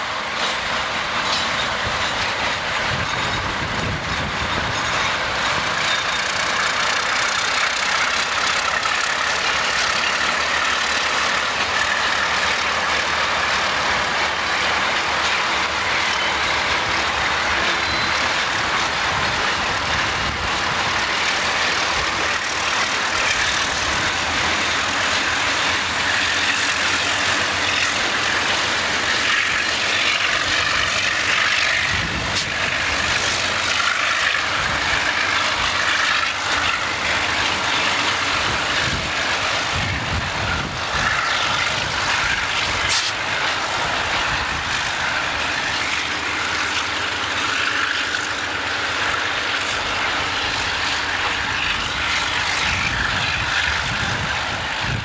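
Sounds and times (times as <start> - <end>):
diesel locomotive running: 0.0 - 55.0.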